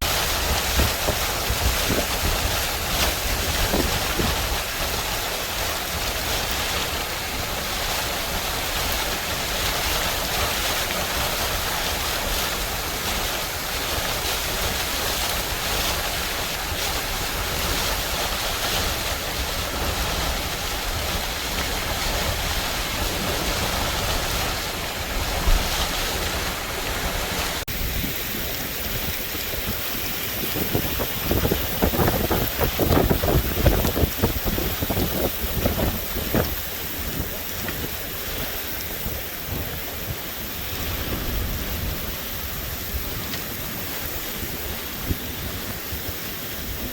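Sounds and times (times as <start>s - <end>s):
heavy rain: 0.0s - 46.9s
wind buffeting microphone: 0.0s - 46.9s.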